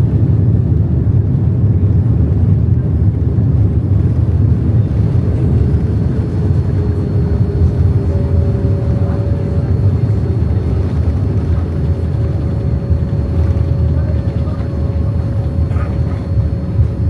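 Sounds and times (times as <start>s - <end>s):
airliner low rumble: 0.0s - 17.0s.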